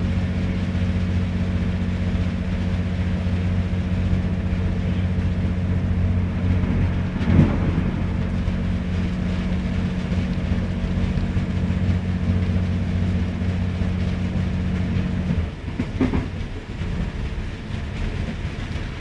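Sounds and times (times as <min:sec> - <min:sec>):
carriage rumbling on rails: 0:00.0 - 0:19.0
train engine drone: 0:00.0 - 0:19.0.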